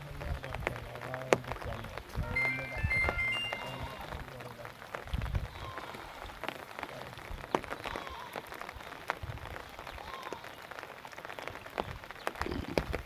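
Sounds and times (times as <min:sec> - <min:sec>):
water splashing and dripping: 0:00.7 - 0:13.0.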